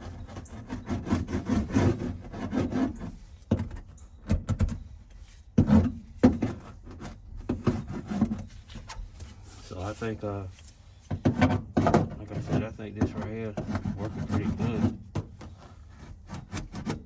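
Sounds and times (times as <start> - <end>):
hand roller rubbing and scraping: 0.0 - 3.8, 5.2 - 10.6, 11.2 - 17.0.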